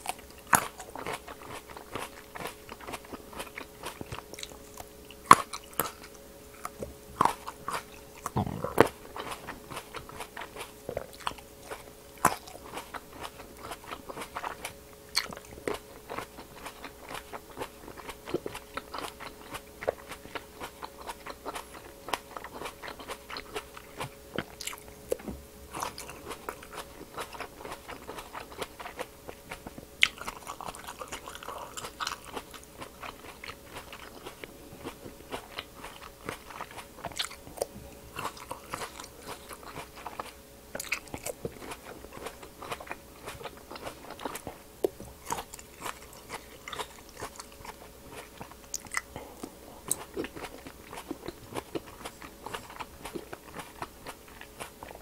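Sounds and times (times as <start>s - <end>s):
chewing: 0.0s - 55.0s
grapes crunching: 0.0s - 55.0s.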